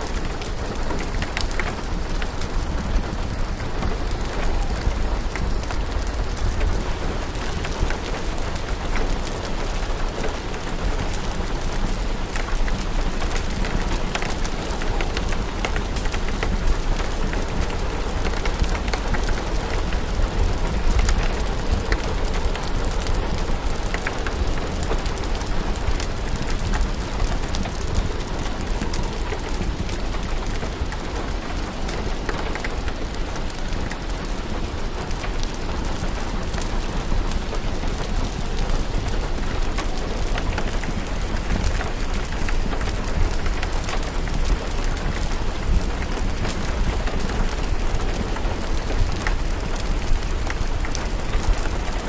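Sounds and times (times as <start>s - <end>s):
rain falling: 0.0s - 52.0s
wood fire crackling: 0.0s - 52.0s.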